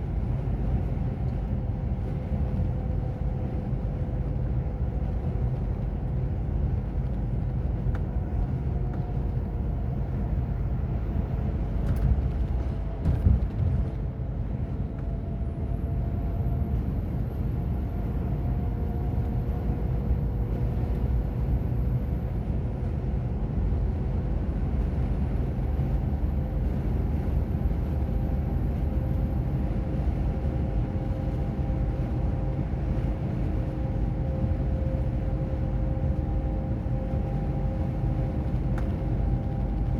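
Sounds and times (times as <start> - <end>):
road noise rumble: 0.1 - 15.8, 21.6 - 39.9.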